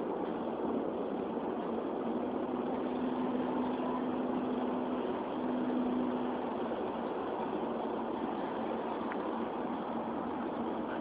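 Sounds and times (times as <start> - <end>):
car engine hum: 0.0 - 11.0
road and tyre noise: 0.0 - 11.0.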